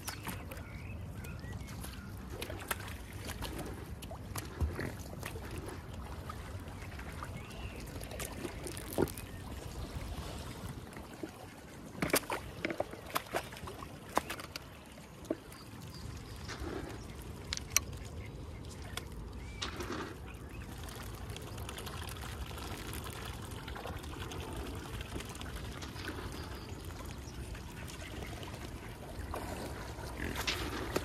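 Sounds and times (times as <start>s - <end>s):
water sloshing and dribbling: 0.0s - 31.0s.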